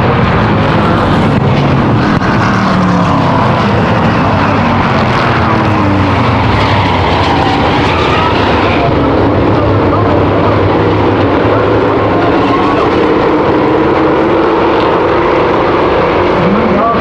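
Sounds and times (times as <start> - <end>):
race car engines at full throttle: 0.0 - 17.0.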